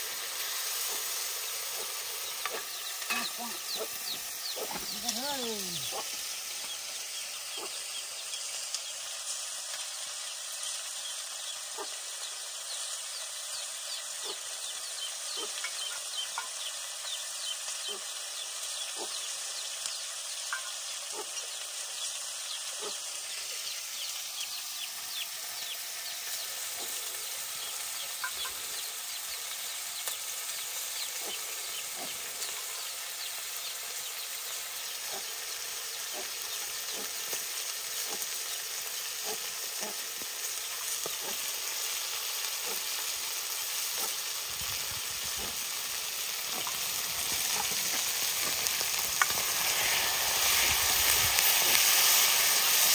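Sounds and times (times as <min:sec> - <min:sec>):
chicken sizzling in a wok: 0:00.0 - 0:52.9.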